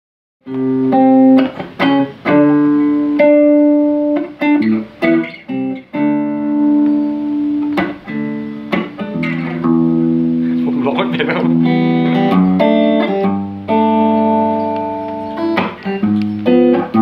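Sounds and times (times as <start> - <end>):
solo guitar playing: 0.4 - 17.0.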